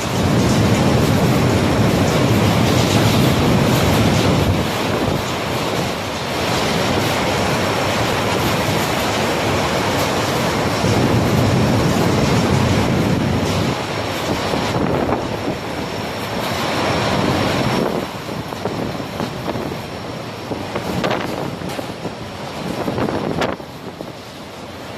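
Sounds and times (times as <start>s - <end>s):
strong gusty wind: 0.0s - 24.9s
wind buffeting the microphone: 0.0s - 24.9s.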